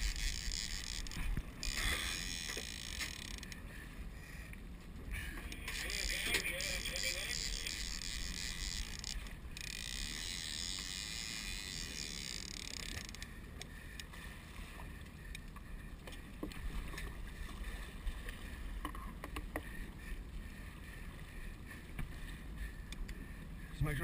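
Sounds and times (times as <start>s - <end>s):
boat engine rumble: 0.0s - 24.0s
water wash against boat: 0.0s - 24.0s.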